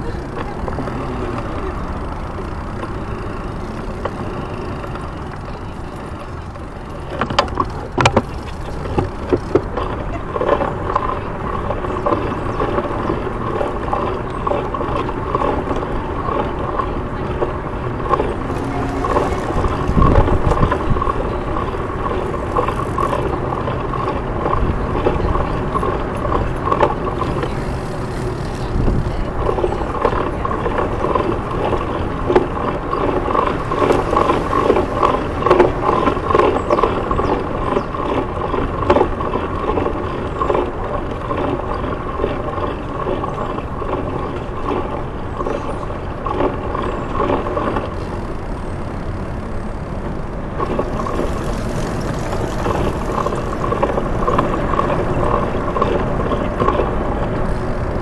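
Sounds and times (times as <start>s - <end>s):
passing vehicles humming: 0.0s - 58.0s
road and tyre rumble: 0.0s - 58.0s.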